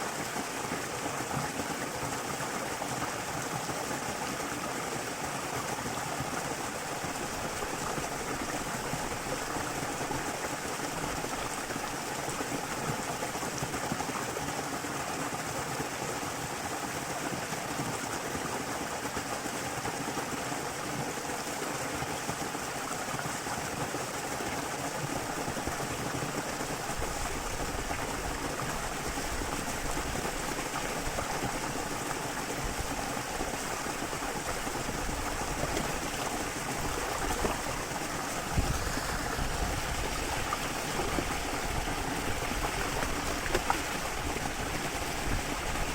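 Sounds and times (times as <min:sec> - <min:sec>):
waterfall and stream rushing: 0:00.0 - 0:45.9.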